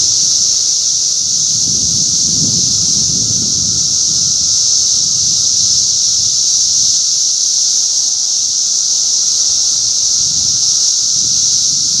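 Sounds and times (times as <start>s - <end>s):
cicadas chorus drone: 0.0s - 12.0s.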